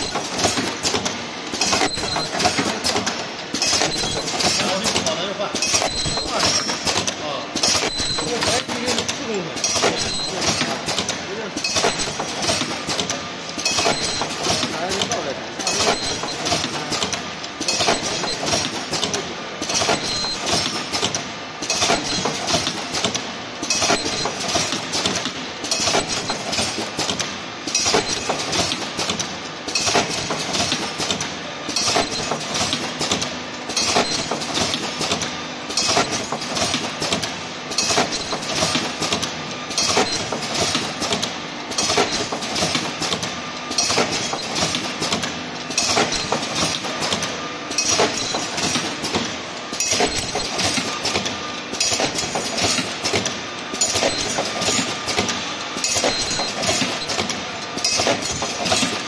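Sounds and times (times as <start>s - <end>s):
welding machine clattering: 0.0s - 59.0s.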